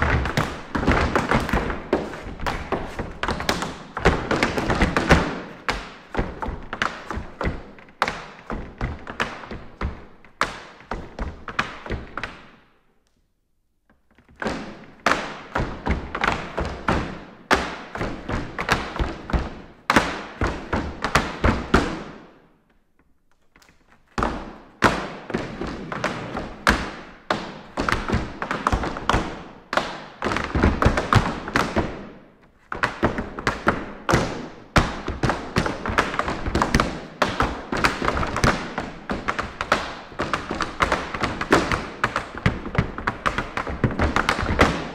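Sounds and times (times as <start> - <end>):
tap shoes on hard floor: 0.0 - 12.6, 13.9 - 44.9.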